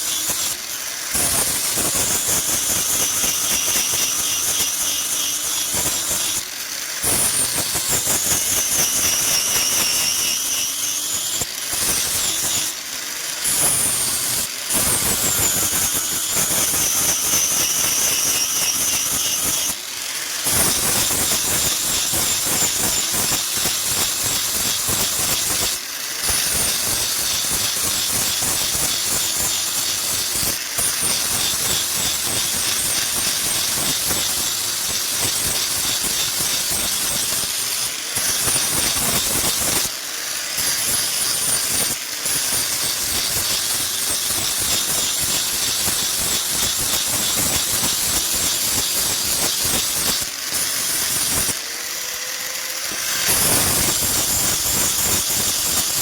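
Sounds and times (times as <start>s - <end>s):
power tool whining on metal: 0.0s - 56.0s.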